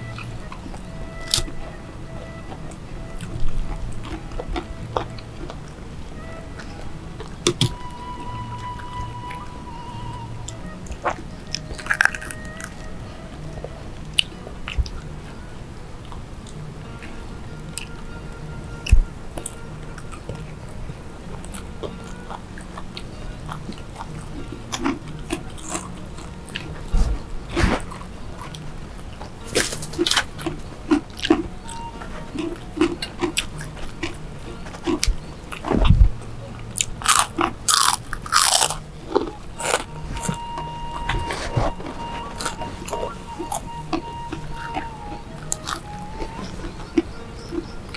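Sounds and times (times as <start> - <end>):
people chewing and crunching food: 0.0 - 47.9.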